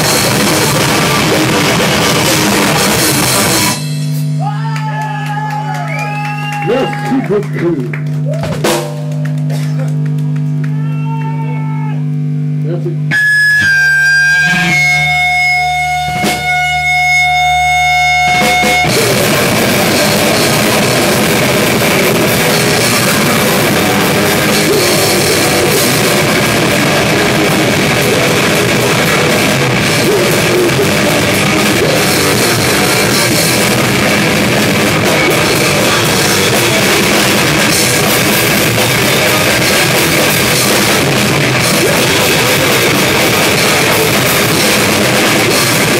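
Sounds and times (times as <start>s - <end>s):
held electric guitar notes: 0.0s - 4.4s, 6.4s - 45.9s
rock band playing loud: 0.0s - 10.8s, 13.1s - 45.9s.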